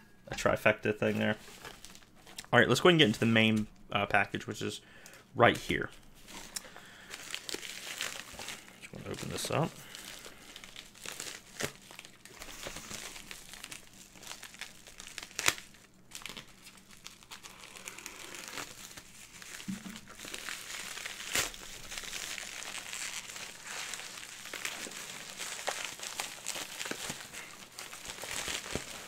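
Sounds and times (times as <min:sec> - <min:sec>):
envelope crinkling and rustling: 0:01.0 - 0:03.6, 0:05.4 - 0:29.0.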